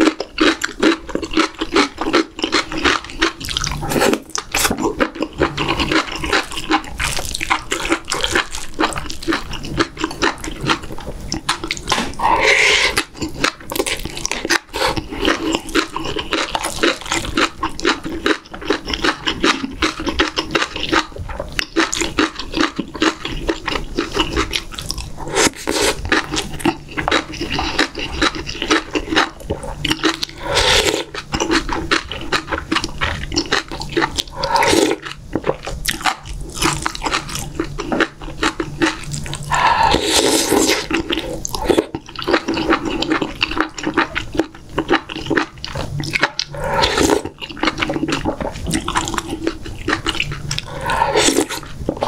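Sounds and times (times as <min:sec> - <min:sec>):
wet chewing and smacking: 0:00.0 - 0:52.0.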